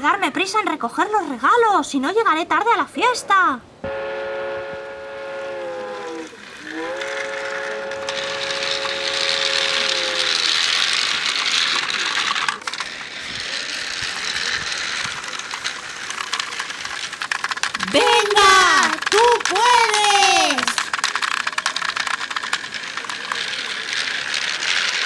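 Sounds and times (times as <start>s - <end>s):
toy train whistle: 3.8s - 25.0s
hiss of toy train running: 4.9s - 25.0s.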